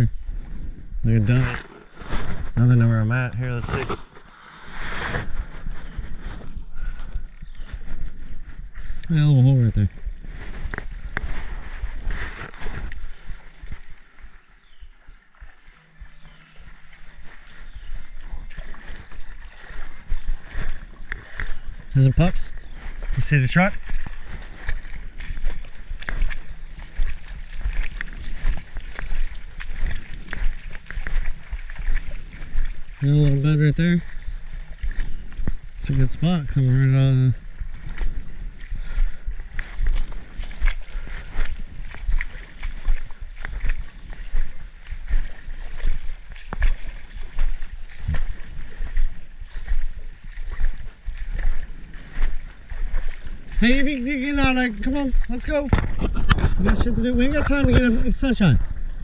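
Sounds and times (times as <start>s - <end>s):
low rumbling on microphone: 0.0s - 59.0s
water sloshing and splashing: 0.2s - 59.0s.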